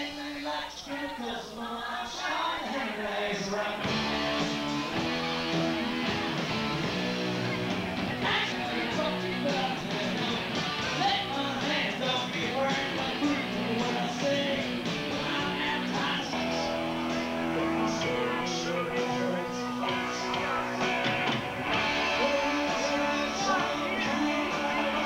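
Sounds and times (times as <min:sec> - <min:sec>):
rock band playing: 0:03.8 - 0:25.0.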